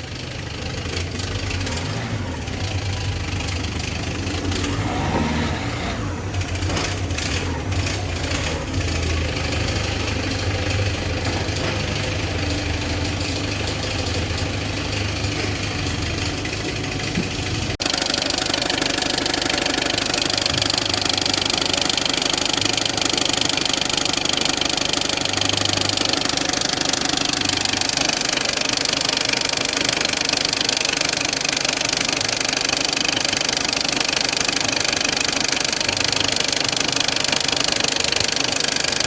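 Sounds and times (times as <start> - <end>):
diesel engine idling: 0.0 - 39.0
loud noise from crankshaft pulley: 0.0 - 39.0.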